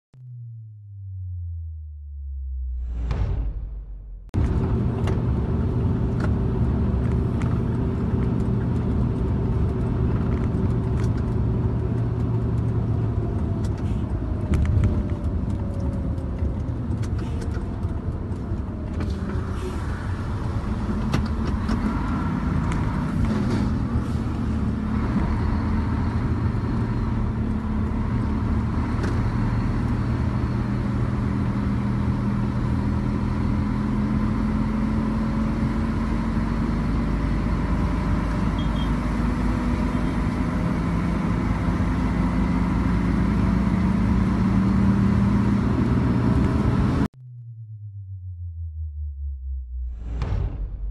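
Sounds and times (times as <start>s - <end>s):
car engine and tyre noise: 2.6s - 47.4s.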